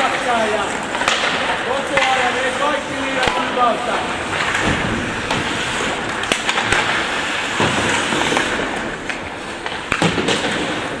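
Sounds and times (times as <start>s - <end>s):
hall background noise: 0.0s - 10.0s
hockey sticks and puck clacking: 0.0s - 11.0s
skates scraping on ice: 0.0s - 11.0s.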